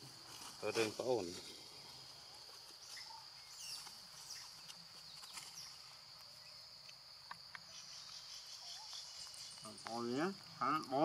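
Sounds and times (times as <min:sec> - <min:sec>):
insect drone: 0:00.0 - 0:11.0.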